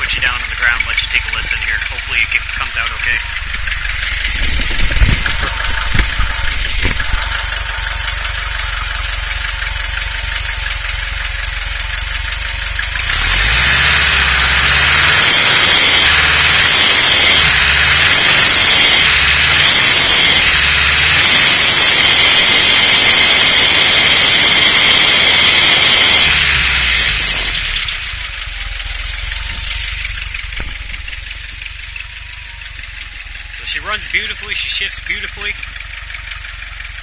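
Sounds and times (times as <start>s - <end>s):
high-pitched squeal: 0.0s - 11.6s, 13.3s - 35.6s
car engine running: 0.0s - 37.0s.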